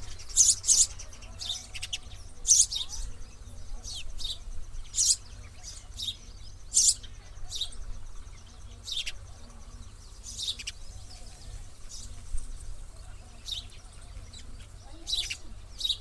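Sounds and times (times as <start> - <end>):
sparrow chirping: 0.0 - 16.0.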